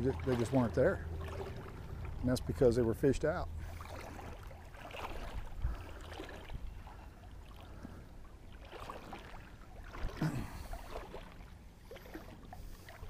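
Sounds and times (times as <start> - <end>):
water sloshing from wading: 0.0 - 13.0.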